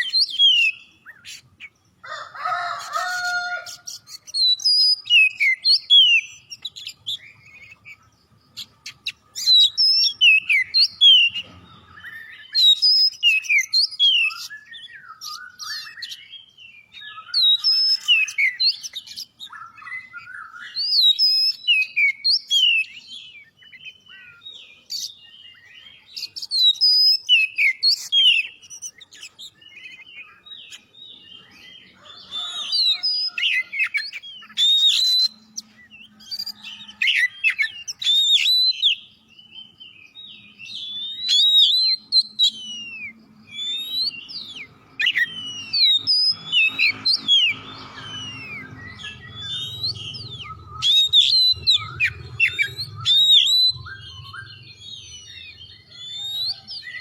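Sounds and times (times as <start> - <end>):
songbird whistling and chattering: 0.0 - 2.0, 3.6 - 57.0.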